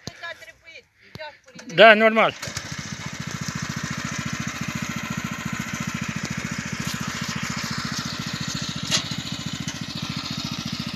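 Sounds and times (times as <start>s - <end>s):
tractor engine chugging: 1.5s - 10.9s.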